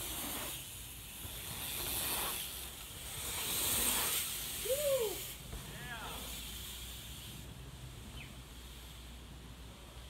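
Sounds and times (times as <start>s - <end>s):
bike tyres hissing on dirt: 0.0s - 10.0s.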